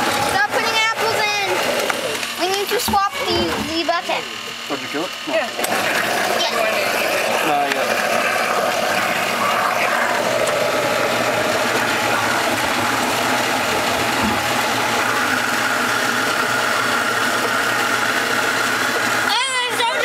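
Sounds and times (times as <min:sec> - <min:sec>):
electric motor humming: 0:00.0 - 0:20.0.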